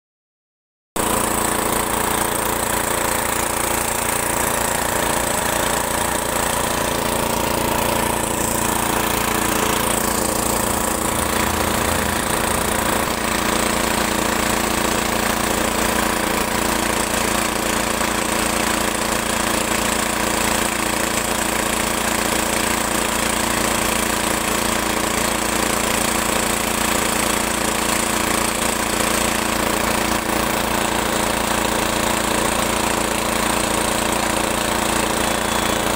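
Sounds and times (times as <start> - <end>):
motor humming steadily: 1.0 - 35.9.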